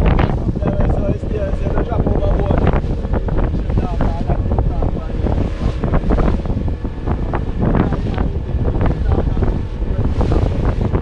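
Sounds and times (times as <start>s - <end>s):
water splashes: 0.0s - 11.0s
wind buffeting microphone: 0.0s - 11.0s.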